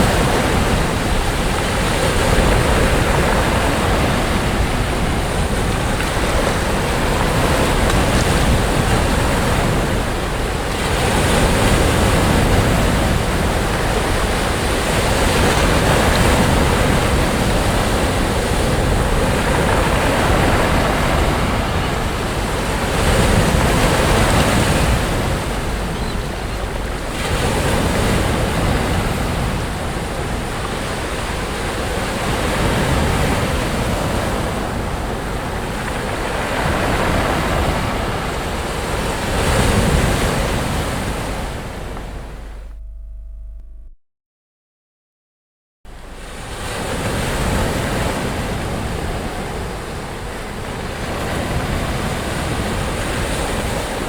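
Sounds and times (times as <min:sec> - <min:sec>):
sea waves breaking on beach: 0:00.0 - 0:42.6, 0:45.9 - 0:54.0.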